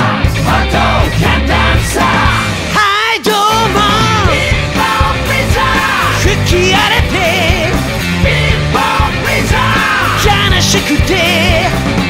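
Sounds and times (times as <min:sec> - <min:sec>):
bass: 0:00.0 - 0:12.0
drums: 0:00.0 - 0:12.0.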